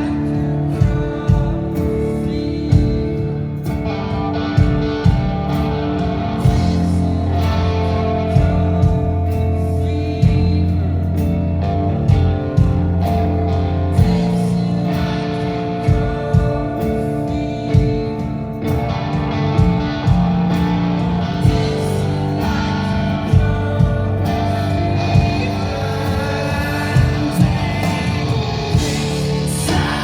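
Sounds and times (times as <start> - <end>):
electric guitars ringing: 0.0 - 30.0
heavy bass line: 0.0 - 30.0
rock band playing live: 0.0 - 30.0.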